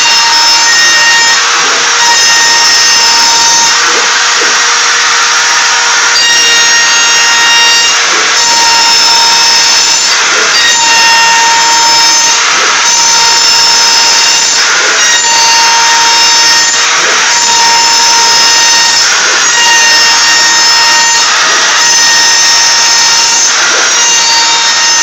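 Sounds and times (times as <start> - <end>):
milling cutter cutting wood: 0.0 - 25.0.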